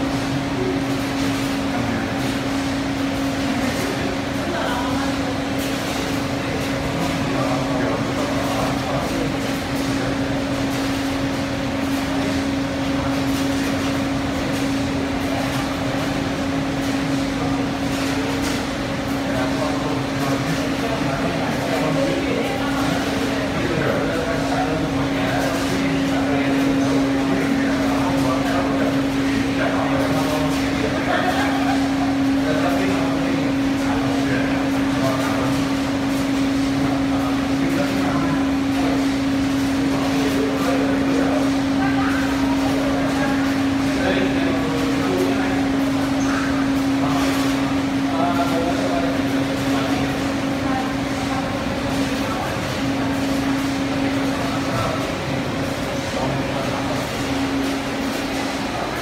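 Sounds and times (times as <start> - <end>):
coffee roaster mechanical hum: 0.0 - 59.0
faint background voices: 0.0 - 59.0.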